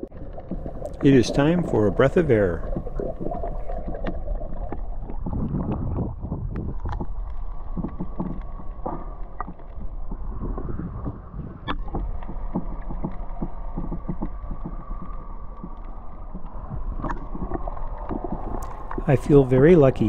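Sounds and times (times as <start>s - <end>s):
water sloshing and lapping: 0.0s - 20.0s
scattered clicks and pops: 0.1s - 1.7s, 2.6s - 19.2s.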